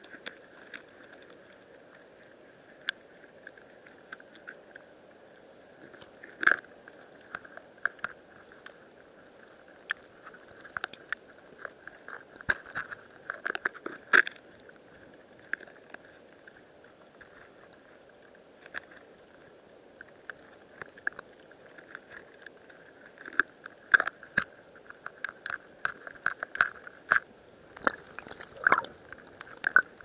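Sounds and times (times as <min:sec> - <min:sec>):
faint steady hiss: 0:00.0 - 0:30.0
underwater clicks and crackles: 0:00.0 - 0:30.0.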